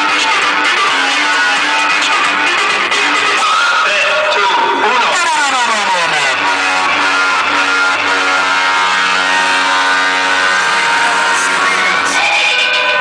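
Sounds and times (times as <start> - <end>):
loud music through speaker wall: 0.0 - 13.0.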